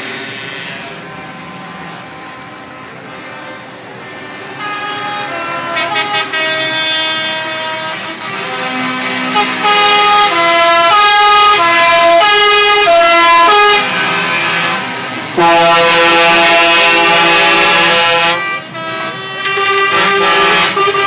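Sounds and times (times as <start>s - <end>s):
musical air horn playing tune: 1.4s - 21.0s.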